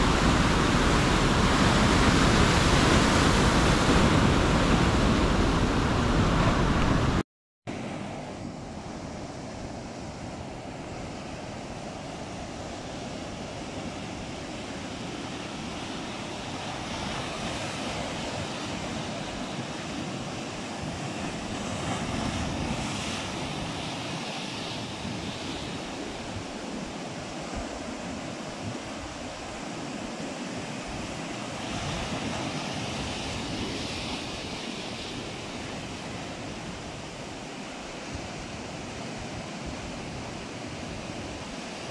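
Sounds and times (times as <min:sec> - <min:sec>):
ocean surf washing ashore: 0:00.0 - 0:41.9.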